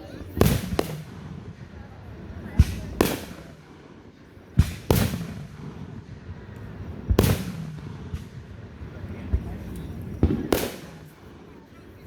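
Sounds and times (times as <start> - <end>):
fireworks thump and bang: 0.0 - 3.9, 4.5 - 11.4.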